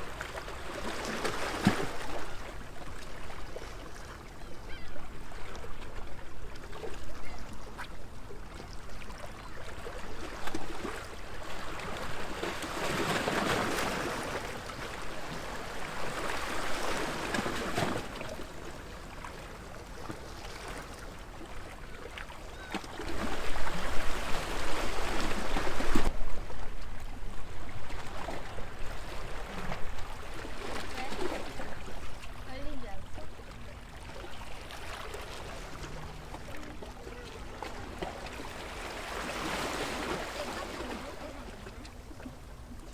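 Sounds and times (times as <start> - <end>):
waves lapping against stone wall: 0.0 - 42.9.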